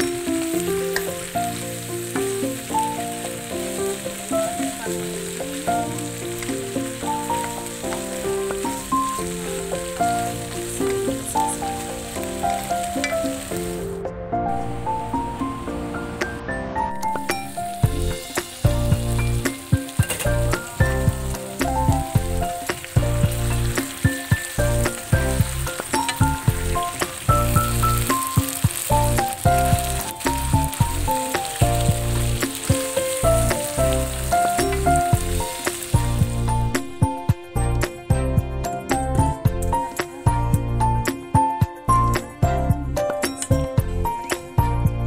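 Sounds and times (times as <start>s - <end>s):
food sizzling in a wok: 0.0s - 14.0s, 16.9s - 44.8s
background music with beat: 0.0s - 45.0s.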